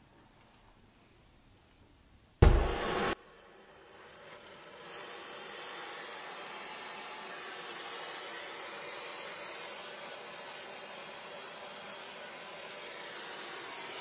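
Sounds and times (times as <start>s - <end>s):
welding torch flame hissing: 2.4s - 14.0s.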